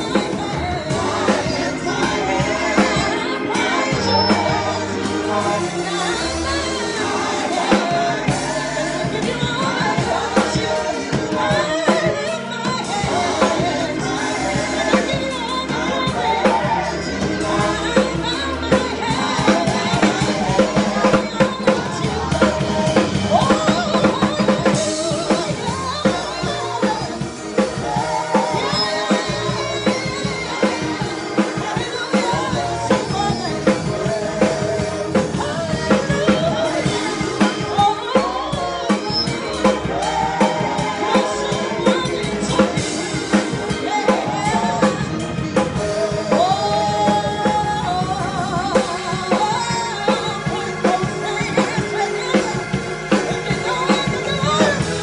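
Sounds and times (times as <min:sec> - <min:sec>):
drum kit: 0:00.0 - 0:55.0
organ: 0:00.0 - 0:55.0
voices singing gospel: 0:00.0 - 0:55.0.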